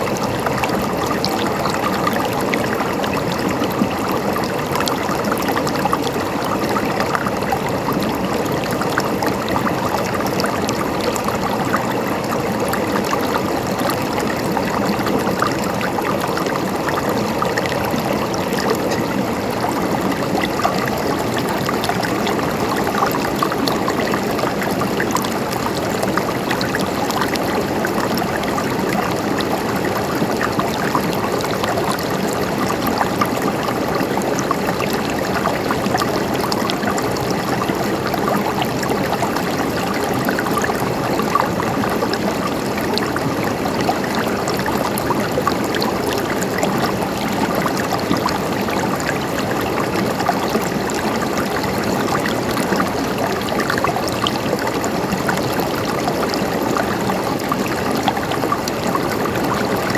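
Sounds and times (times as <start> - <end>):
stream gurgling over rocks: 0.0 - 59.9.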